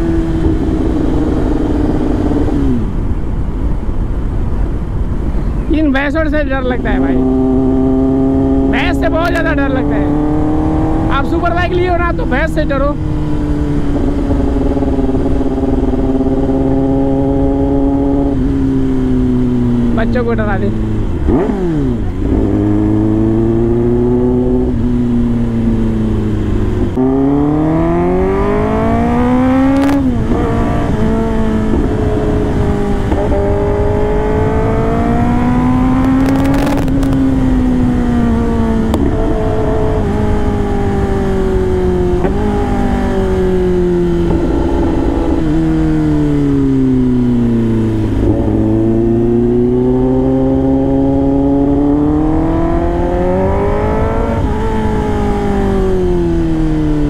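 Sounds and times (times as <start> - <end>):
motorcycle engine revving: 0.0 - 3.4, 6.2 - 57.0
wind and road noise: 0.0 - 57.0.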